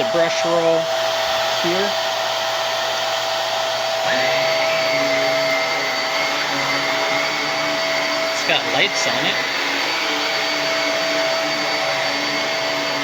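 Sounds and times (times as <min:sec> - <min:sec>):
upright vacuum cleaner motor whine: 0:00.0 - 0:13.0.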